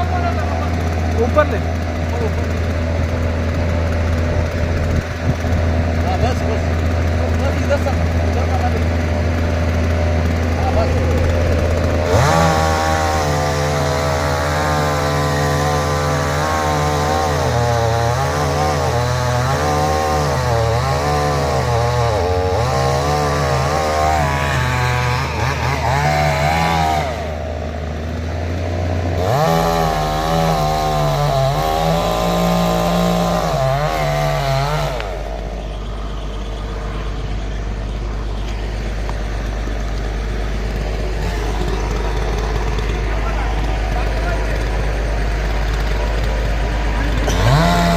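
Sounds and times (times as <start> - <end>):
chainsaw cutting wood: 0.0 - 47.9
low engine hum: 0.0 - 47.9.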